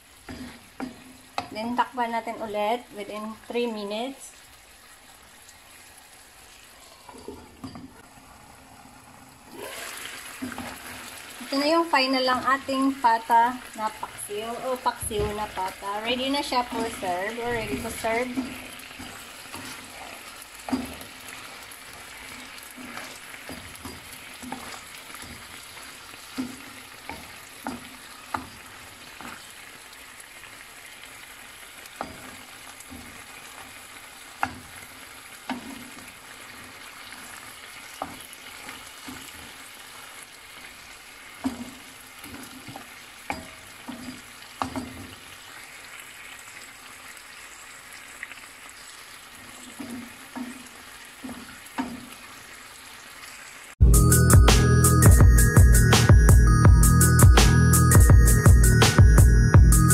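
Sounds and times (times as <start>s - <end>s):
pot simmering with sizzling hiss: 0.0s - 53.8s.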